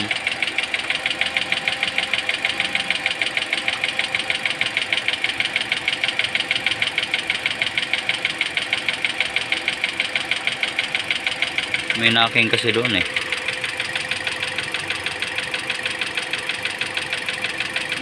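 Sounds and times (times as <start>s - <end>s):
car engine idling: 0.0s - 18.0s
fast sharp engine knocking: 0.0s - 18.0s.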